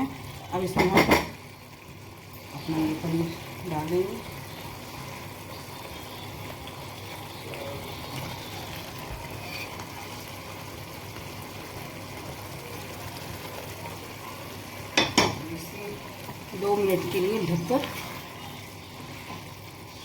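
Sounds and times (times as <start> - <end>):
thick gravy bubbling: 0.0 - 20.0.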